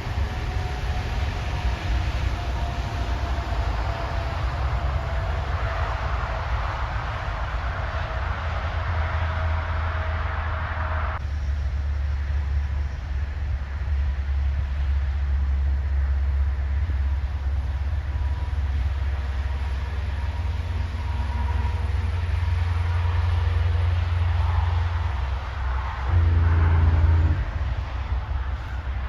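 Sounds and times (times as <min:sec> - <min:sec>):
heavy truck engine rumbling: 0:00.0 - 0:29.0.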